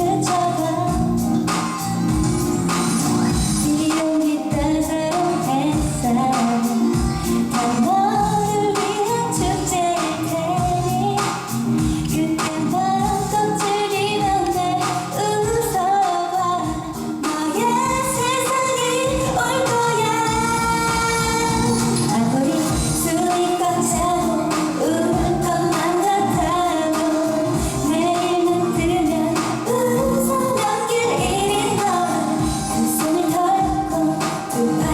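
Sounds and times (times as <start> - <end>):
backing track with steady beat: 0.0 - 34.9
woman singing pop song: 0.0 - 34.9.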